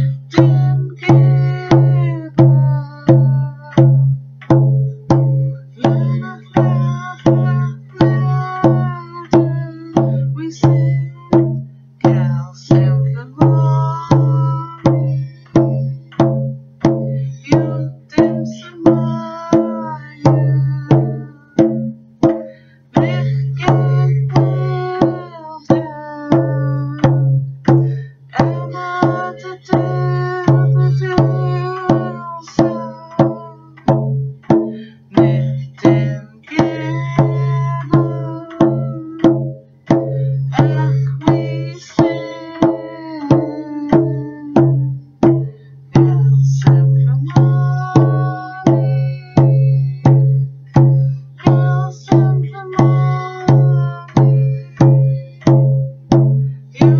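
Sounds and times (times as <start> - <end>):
woman singing: 0.0 - 4.1, 4.8 - 56.9
hand drum beating: 0.0 - 56.9.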